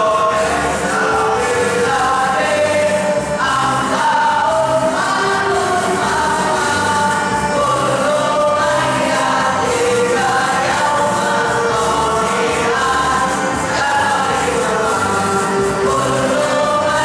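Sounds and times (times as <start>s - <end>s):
boys choir singing: 0.0s - 17.0s.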